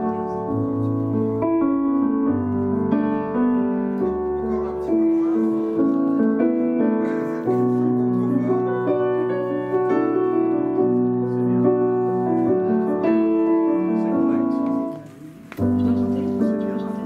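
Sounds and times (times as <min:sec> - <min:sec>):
piano backing music: 0:00.0 - 0:17.0.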